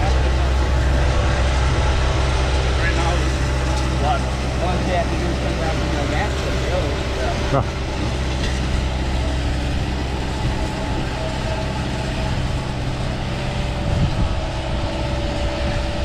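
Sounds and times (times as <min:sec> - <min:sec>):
diesel engine running: 0:00.0 - 0:16.0
steady whine: 0:00.0 - 0:16.0.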